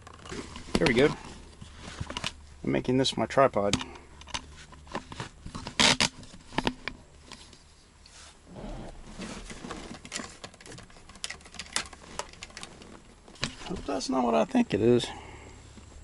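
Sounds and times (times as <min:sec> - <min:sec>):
hands rustling cable: 0:00.0 - 0:02.6, 0:03.7 - 0:14.1.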